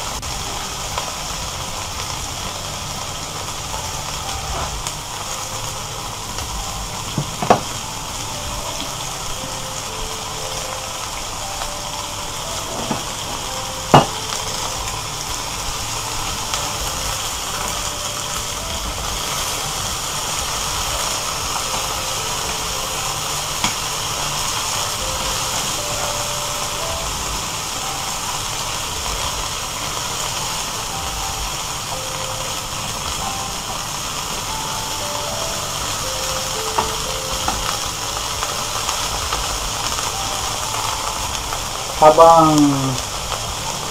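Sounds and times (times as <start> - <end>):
food sizzling in a frying pan: 0.0 - 43.9.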